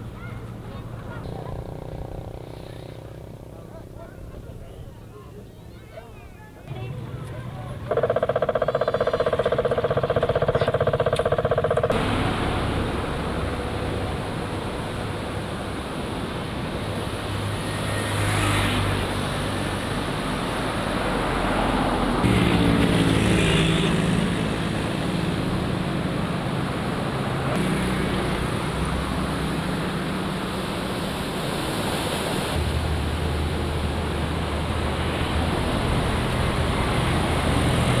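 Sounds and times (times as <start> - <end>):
low engine-like hum: 0.0 - 38.0
steady rushing noise: 6.7 - 38.0.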